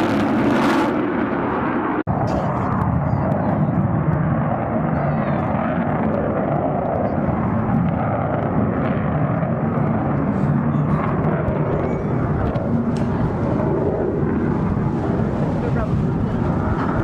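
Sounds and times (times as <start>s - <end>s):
aircraft engine: 0.0s - 17.0s.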